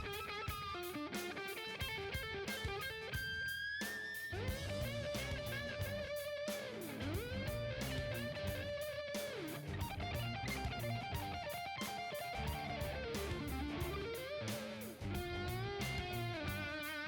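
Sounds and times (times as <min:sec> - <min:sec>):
electric guitar music with beat: 0:00.0 - 0:17.0.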